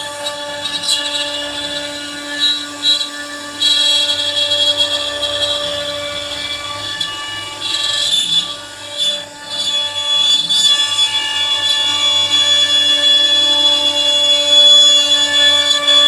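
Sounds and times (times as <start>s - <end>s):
router bit grinding wood: 0.0s - 16.0s
router spindle whining: 0.0s - 16.0s.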